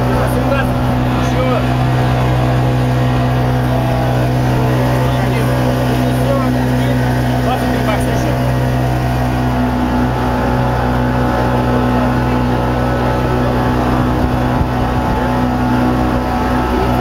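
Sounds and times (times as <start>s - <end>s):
motorboat engine droning: 0.0s - 17.0s
water rushing past hull: 0.0s - 17.0s.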